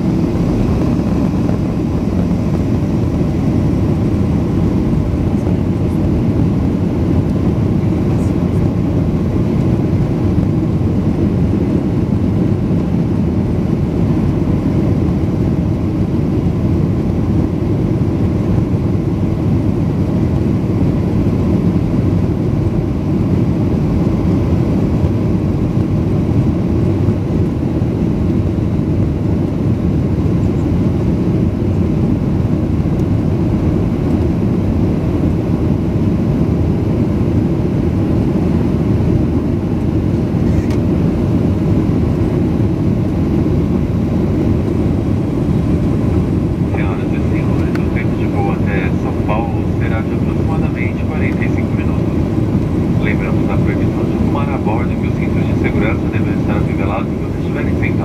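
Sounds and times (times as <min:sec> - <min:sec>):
airplane cabin engine rush: 0:00.0 - 0:58.0.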